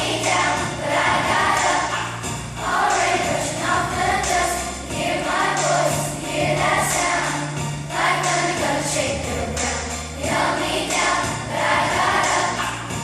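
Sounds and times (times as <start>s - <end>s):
children's choir singing: 0.0s - 13.0s
instrumental accompaniment: 0.0s - 13.0s
low bass notes: 0.0s - 13.0s.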